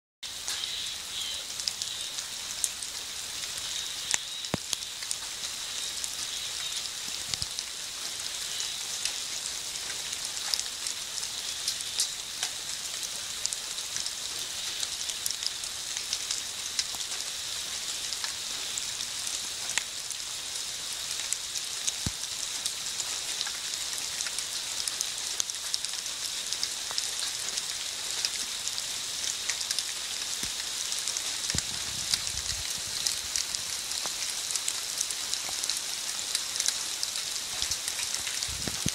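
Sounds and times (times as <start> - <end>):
steady rain: 0.2 - 38.9.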